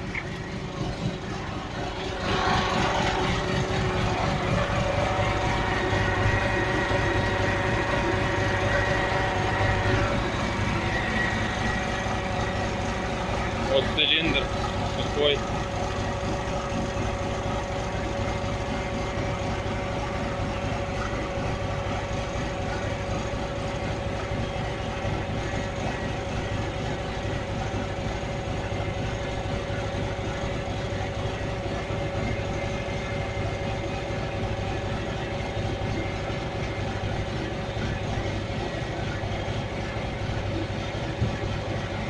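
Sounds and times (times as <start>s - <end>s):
diesel truck engine idling: 0.0s - 42.0s
hydraulic pump running: 0.0s - 42.0s.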